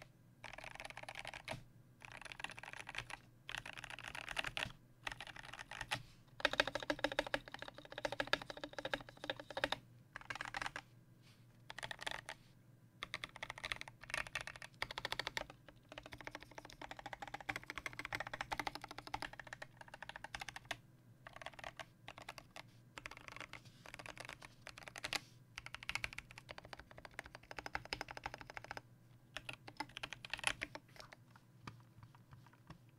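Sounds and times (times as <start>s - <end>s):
typing on mechanical keyboard: 0.0s - 10.8s, 11.7s - 12.4s, 13.0s - 28.8s, 29.4s - 32.8s.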